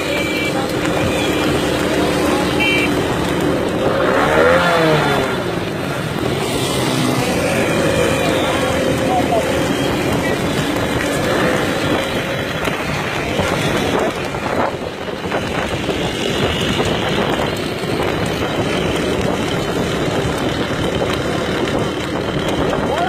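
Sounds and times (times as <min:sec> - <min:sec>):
vehicle running: 0:00.0 - 0:23.0
wind buffeting microphone: 0:00.0 - 0:23.0.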